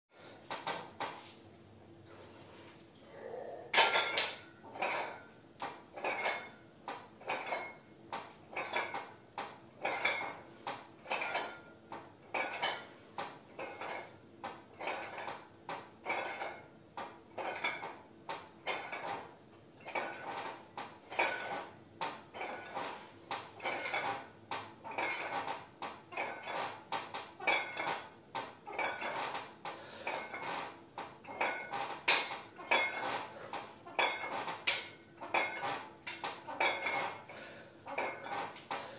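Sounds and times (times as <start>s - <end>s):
dumbbells clinking: 3.7s - 38.9s.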